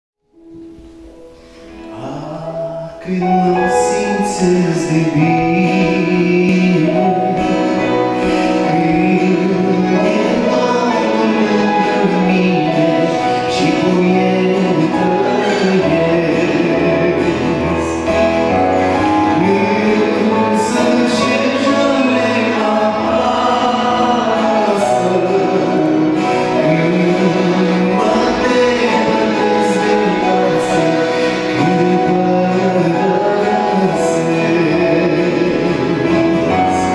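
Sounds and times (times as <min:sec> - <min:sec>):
acoustic guitar: 0:00.2 - 0:36.9
keyboard: 0:00.2 - 0:36.9
man singing into microphone: 0:01.6 - 0:36.9.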